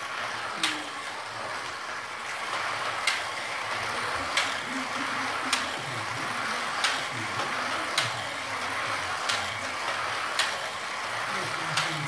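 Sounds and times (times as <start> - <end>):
sharp clicks of slot car track: 0.0 - 12.0
slot car whirring: 0.0 - 12.0.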